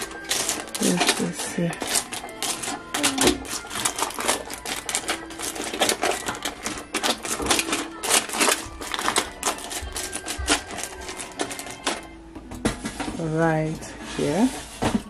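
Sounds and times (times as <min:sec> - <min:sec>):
kernels and candies rattling on foil: 0:00.0 - 0:12.1.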